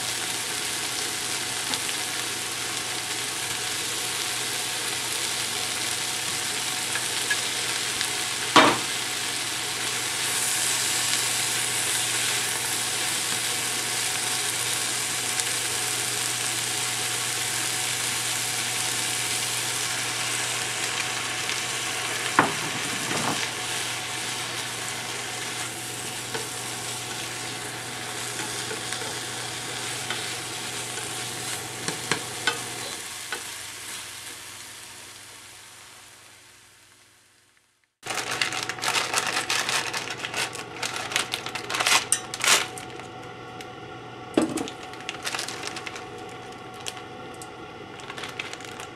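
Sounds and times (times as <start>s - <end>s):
food sizzling in a frying pan: 0.0s - 42.7s.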